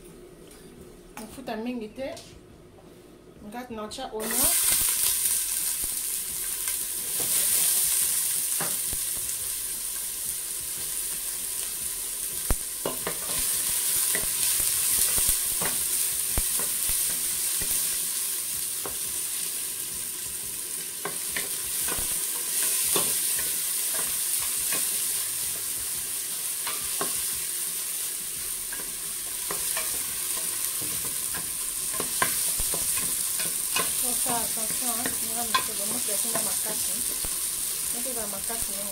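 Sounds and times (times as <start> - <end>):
onions sizzling in oil: 4.2 - 38.9.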